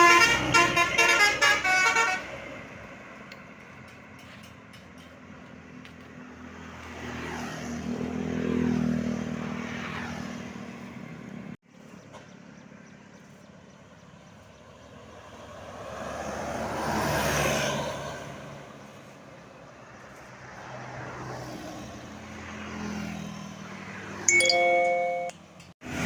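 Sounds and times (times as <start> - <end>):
vehicle engine hum passing: 2.2 - 24.3.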